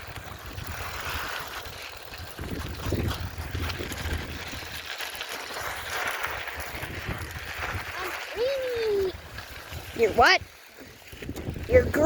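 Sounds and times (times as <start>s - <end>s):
wind buffeting microphone: 0.0s - 5.0s, 5.6s - 12.0s
bicycle clicks and rattles: 0.0s - 12.0s.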